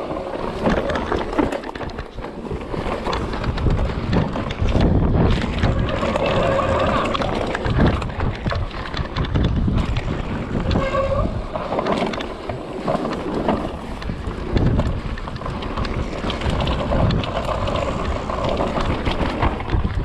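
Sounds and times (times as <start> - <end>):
bike rattling and knocking: 0.0 - 20.0
tyres rumbling on dirt: 0.0 - 20.0
wind buffeting microphone: 0.0 - 20.0.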